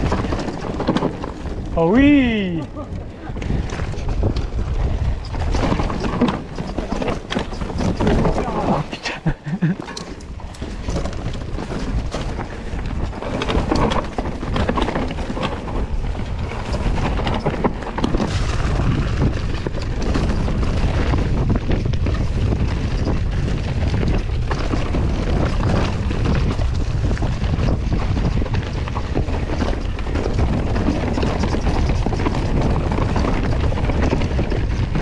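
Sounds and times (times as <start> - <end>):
bike knocks and rattles: 0.0 - 35.0
bike tyres on dirt trail: 0.0 - 35.0
wind rumble on microphone: 0.0 - 35.0.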